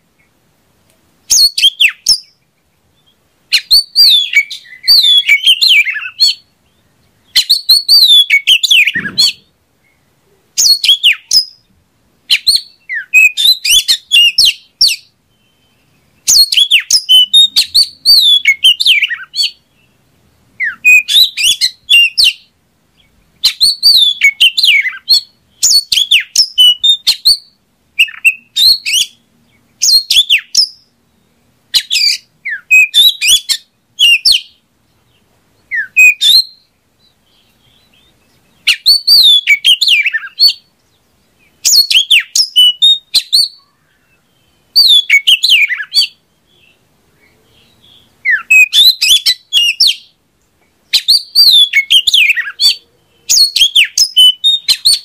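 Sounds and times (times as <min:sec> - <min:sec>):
bird singing: 0:01.3 - 0:50.2, 0:50.8 - 0:55.0.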